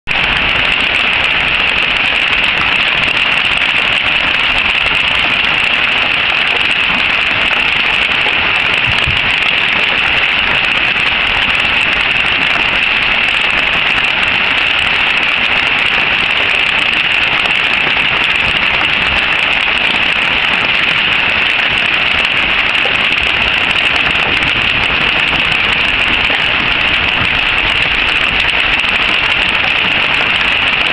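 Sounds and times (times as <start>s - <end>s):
hail pelting surfaces: 0.1s - 30.9s.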